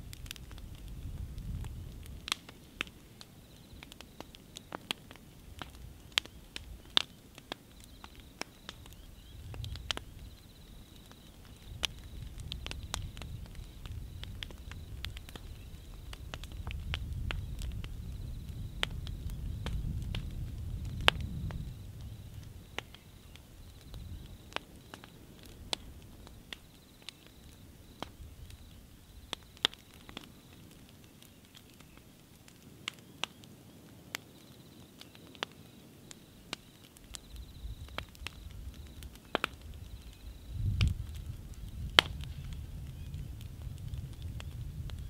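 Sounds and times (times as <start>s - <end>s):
bonfire crackling and popping: 0.0s - 45.0s.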